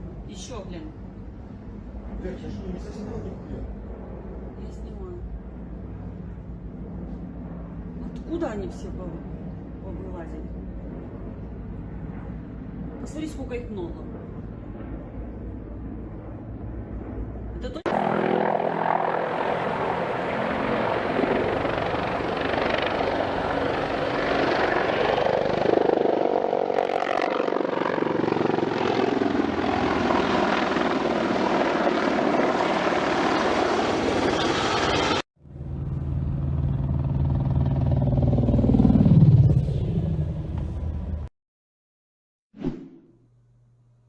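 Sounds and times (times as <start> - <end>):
helicopter steady low hum: 0.0 - 41.3
helicopters passing close by: 0.0 - 41.3.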